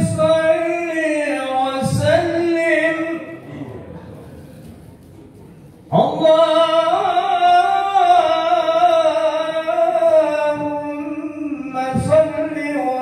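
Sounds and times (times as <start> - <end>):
man chanting into a microphone: 0.0 - 4.1, 5.8 - 13.0.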